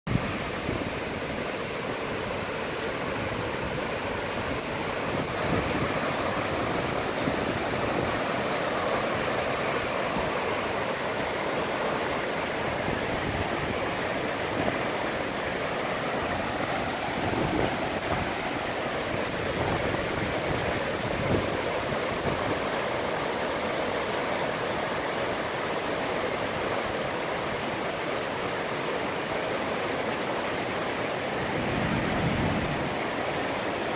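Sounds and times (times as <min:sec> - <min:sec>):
rushing floodwater roar: 0:00.1 - 0:33.9.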